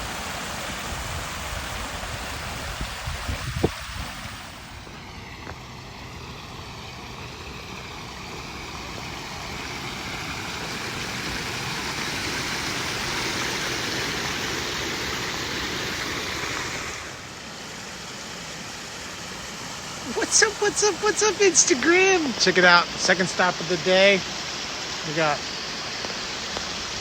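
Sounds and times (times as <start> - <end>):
waterfall splashing into pond: 0.0 - 27.0.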